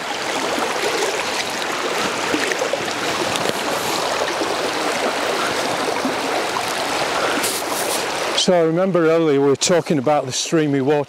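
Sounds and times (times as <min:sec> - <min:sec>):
river water rushing over stones: 0:00.0 - 0:10.8.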